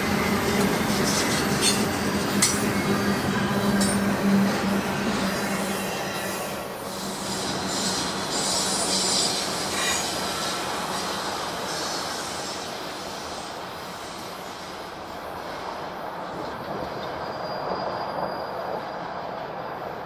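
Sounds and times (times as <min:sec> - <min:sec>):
railroad cars rumbling past: 0:00.0 - 0:20.0
wheels squealing on rails: 0:00.0 - 0:20.0.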